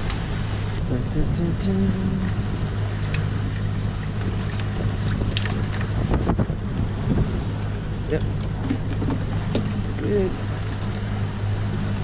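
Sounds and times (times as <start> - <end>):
wind on microphone: 0.0 - 10.9
boat engine humming: 0.0 - 12.0.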